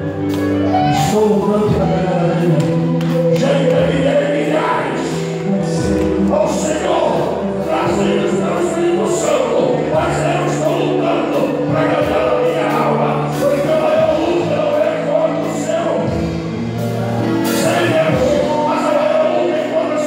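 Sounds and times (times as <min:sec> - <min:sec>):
held bass notes: 0:00.0 - 0:20.0
man singing into a microphone: 0:00.9 - 0:16.4, 0:17.5 - 0:20.0
group of voices singing: 0:01.2 - 0:16.4, 0:17.0 - 0:20.0.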